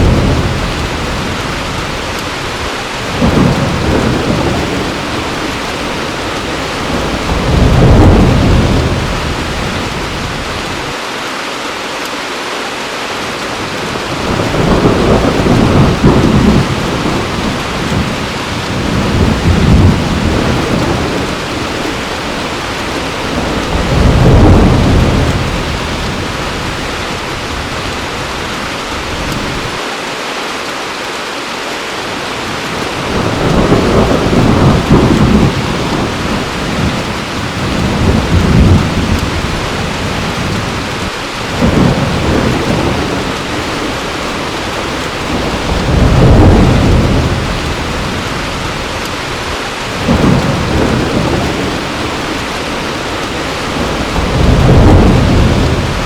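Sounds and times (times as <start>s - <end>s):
thunder rumbling: 0.0s - 11.0s, 13.5s - 29.8s, 32.3s - 56.0s
heavy rain: 0.0s - 56.0s.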